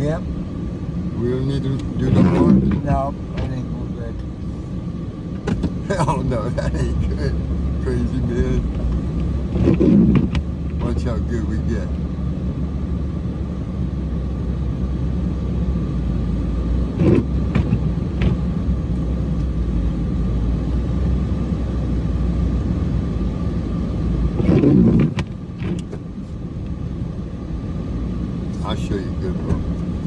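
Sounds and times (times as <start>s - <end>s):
diesel engine running: 0.0s - 30.0s
faint steady whine: 0.0s - 30.0s.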